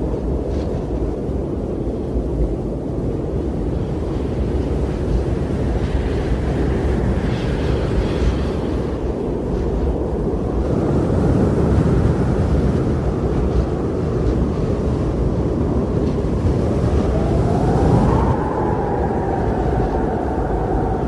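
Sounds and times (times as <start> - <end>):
blizzard wind howling: 0.0 - 21.0.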